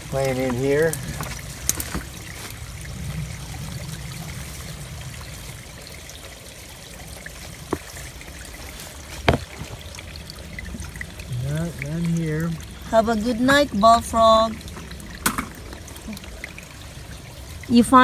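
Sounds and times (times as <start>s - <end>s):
creek water trickling: 0.0s - 18.0s.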